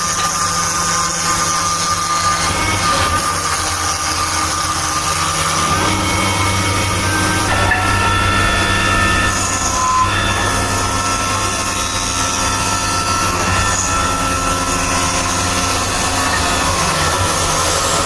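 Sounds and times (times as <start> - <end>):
machinery humming: 0.0 - 18.0
machinery whining: 0.0 - 18.0.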